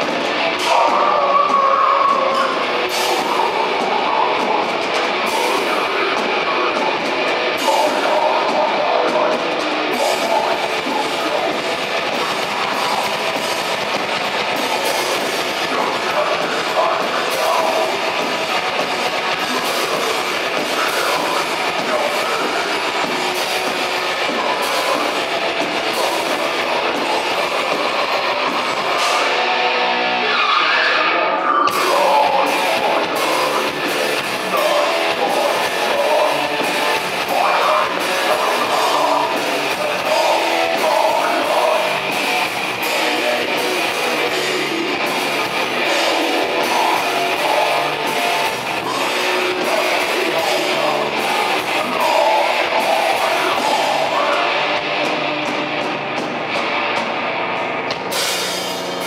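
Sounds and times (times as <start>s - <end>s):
distorted electric guitar: 0.0s - 59.0s
drum kit: 0.0s - 59.0s.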